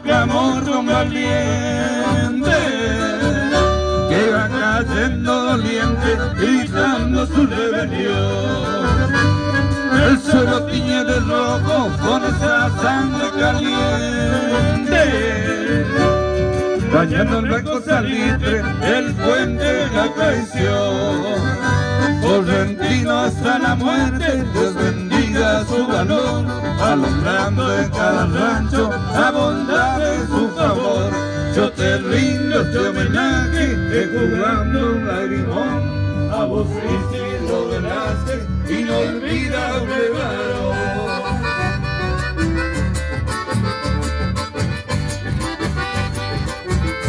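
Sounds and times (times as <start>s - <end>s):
accordion: 0.0s - 47.0s
strummed guitars: 0.0s - 47.0s.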